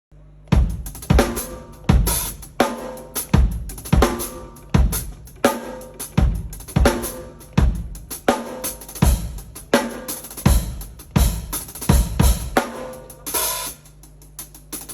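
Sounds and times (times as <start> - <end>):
drum kit groove: 0.5 - 14.9.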